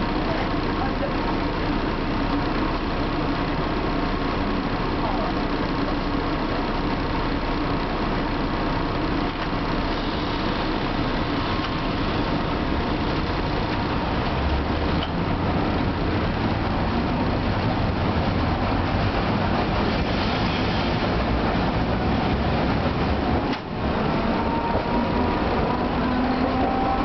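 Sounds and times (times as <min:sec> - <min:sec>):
streetcar running noise: 0:00.0 - 0:27.0
traction motors rumbling: 0:00.0 - 0:27.0.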